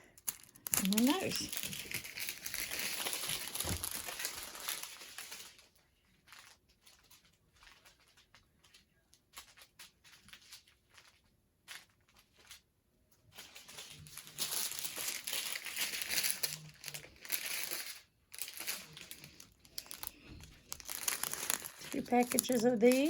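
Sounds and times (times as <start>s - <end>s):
plastic packets crinkling: 0.0s - 23.0s.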